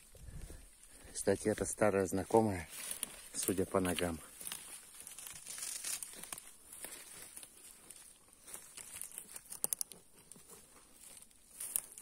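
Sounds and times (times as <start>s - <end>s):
dry leaves crackling underfoot: 0.0s - 12.0s.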